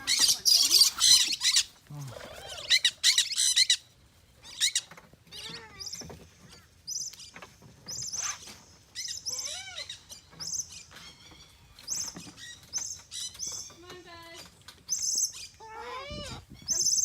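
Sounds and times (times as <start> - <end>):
parrots chirping and squeaking: 0.0 - 17.0.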